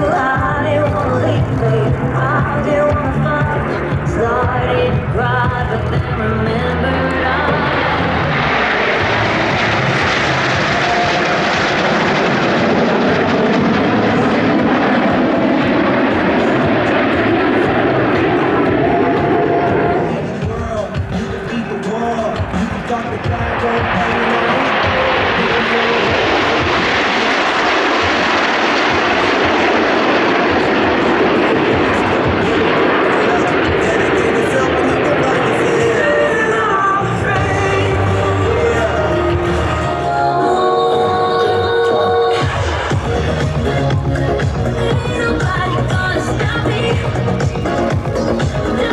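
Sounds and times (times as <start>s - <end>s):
aircraft engine rush: 0.0s - 48.9s.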